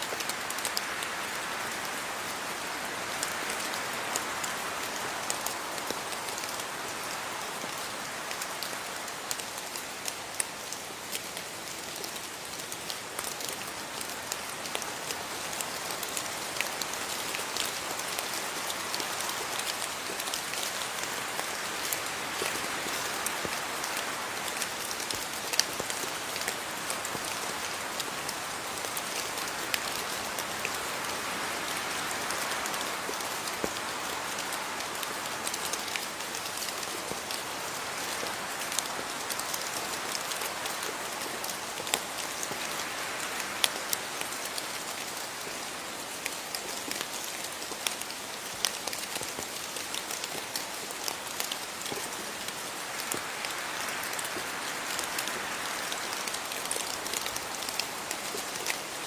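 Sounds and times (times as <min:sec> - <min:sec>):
steady rain with ticking drops: 0:00.0 - 0:59.0.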